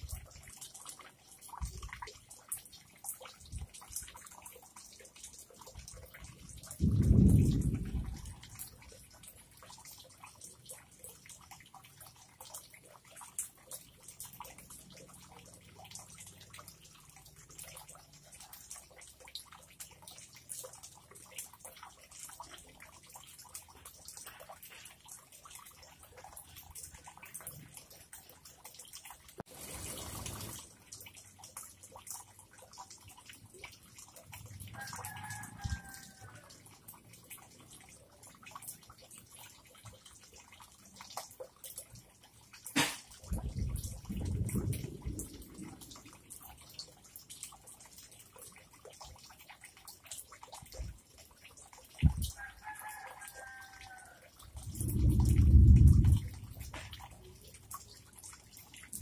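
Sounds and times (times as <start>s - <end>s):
water dripping and ticking: 0.0s - 59.0s.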